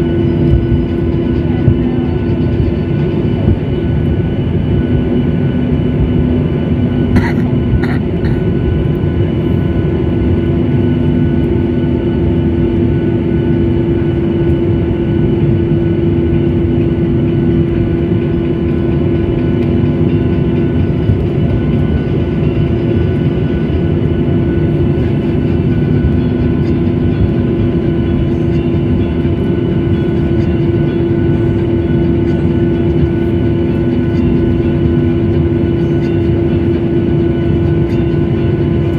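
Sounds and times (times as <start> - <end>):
airliner cabin engine roar: 0.0 - 38.9
low drone: 0.0 - 38.9
steady hum: 0.0 - 38.9.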